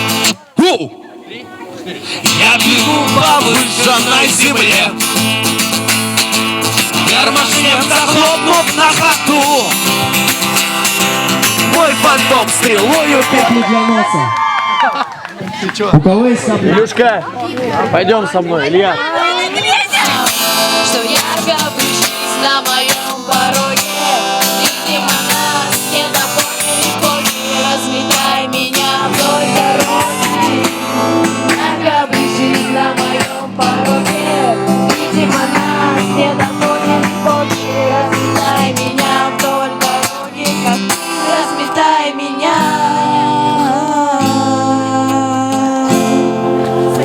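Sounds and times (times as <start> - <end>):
acoustic guitar strummed: 0.0 - 0.4, 2.1 - 13.5, 19.7 - 47.0
voices singing: 0.0 - 13.5, 17.3 - 47.0.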